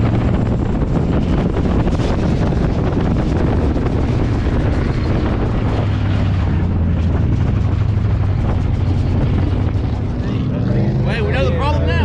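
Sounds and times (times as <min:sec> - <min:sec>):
race car engine droning: 0:00.0 - 0:12.0
wind and track noise: 0:00.0 - 0:12.0.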